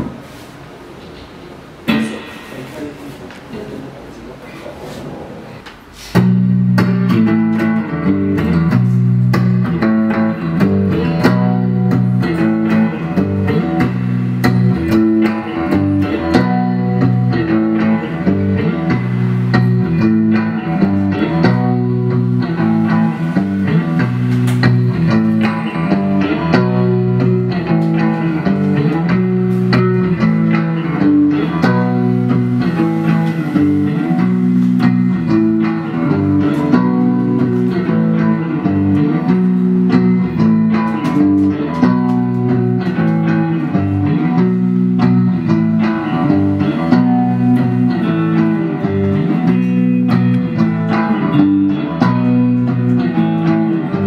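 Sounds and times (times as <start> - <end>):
electric guitar riff: 0.0 - 3.8, 5.6 - 54.0.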